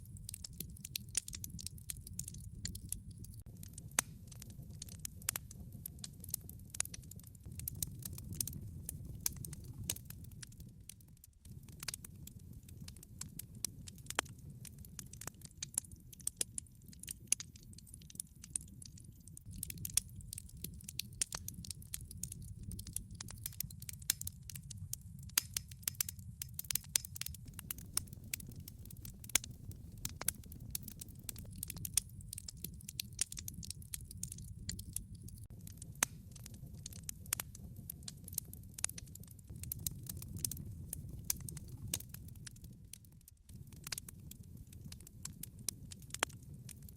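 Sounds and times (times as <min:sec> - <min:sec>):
burning logs crackling and popping: 0:00.0 - 0:46.9
low rumble of flames: 0:00.0 - 0:46.9.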